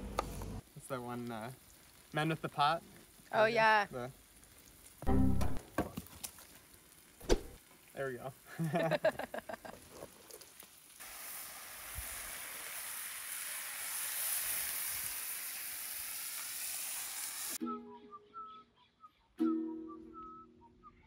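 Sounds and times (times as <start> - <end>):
bacon sizzling on a griddle: 0.6 - 17.6.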